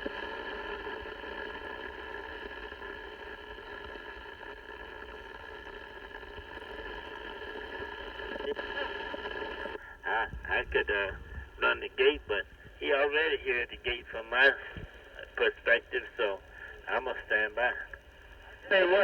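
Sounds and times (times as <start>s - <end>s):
faint steady tones: 0.0s - 19.0s
radio receiver static: 0.0s - 19.0s.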